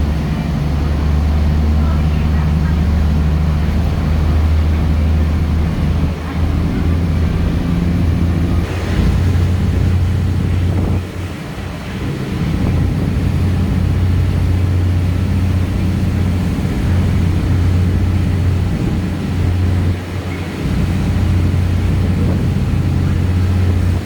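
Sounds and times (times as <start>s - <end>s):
low engine drone: 0.0s - 24.0s
wind noise on microphone: 0.0s - 24.0s.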